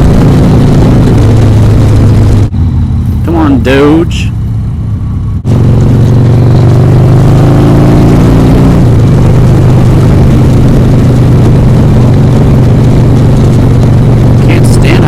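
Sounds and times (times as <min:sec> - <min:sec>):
motorcycle engine on road: 0:00.0 - 0:15.0.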